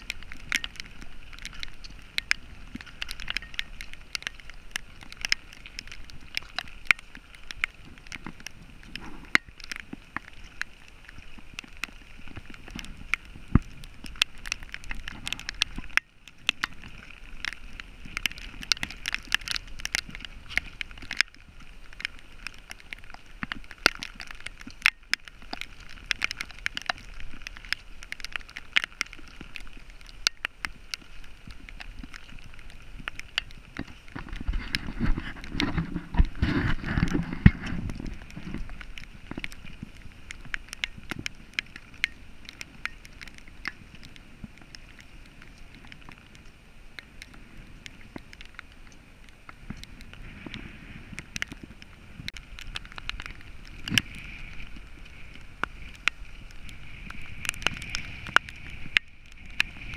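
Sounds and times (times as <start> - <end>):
rain pattering on microphone: 0.0 - 59.9.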